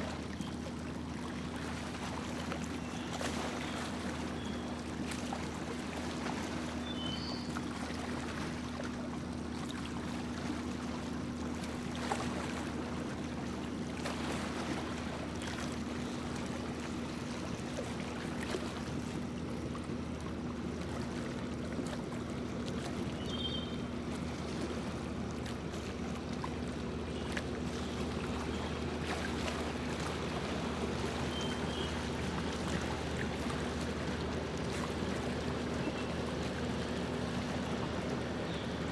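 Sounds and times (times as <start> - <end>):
boat motor humming: 0.0 - 38.9
water washing along hull: 0.0 - 38.9.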